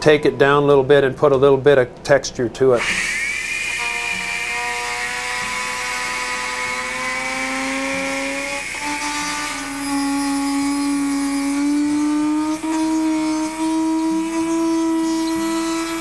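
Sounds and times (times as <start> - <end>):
rotary tool grinding whine: 2.8 - 16.0.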